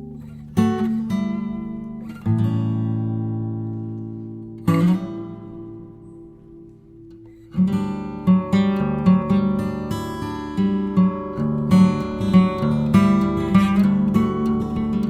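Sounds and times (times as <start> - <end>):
slow guitar chords strummed: 0.0 - 15.0.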